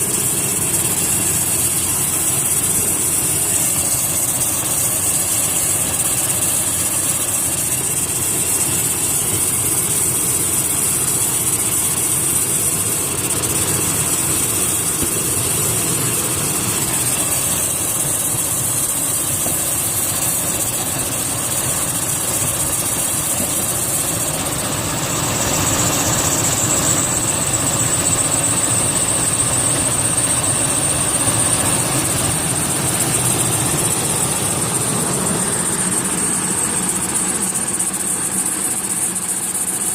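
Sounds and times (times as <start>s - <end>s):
car engine idling: 0.0s - 39.9s
high-pitched belt whine: 0.0s - 39.9s.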